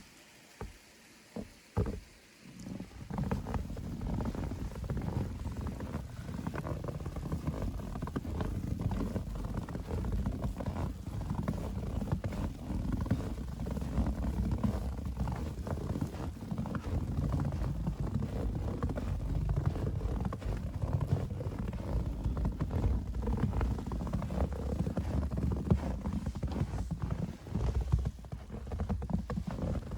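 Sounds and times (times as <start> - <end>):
footsteps crunching in snow: 2.7 - 29.9
wind rumble on microphone: 2.7 - 29.9.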